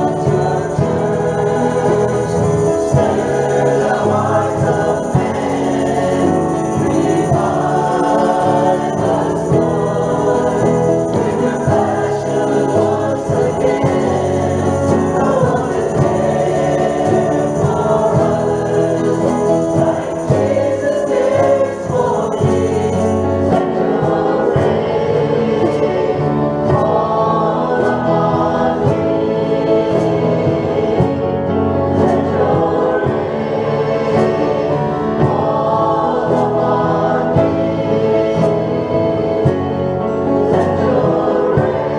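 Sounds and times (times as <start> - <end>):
church choir singing: 0.0 - 41.9
instrumental accompaniment: 0.0 - 41.9.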